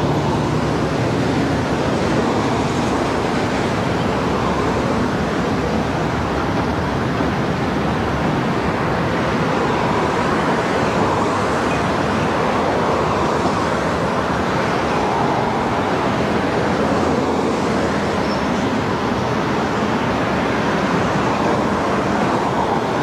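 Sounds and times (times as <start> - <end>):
train wheels rolling on rail: 0.0 - 23.0.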